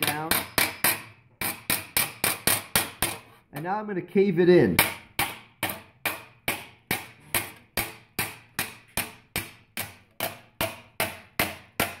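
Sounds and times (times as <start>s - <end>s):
hammer striking sheet metal: 0.0s - 3.2s, 4.7s - 12.0s.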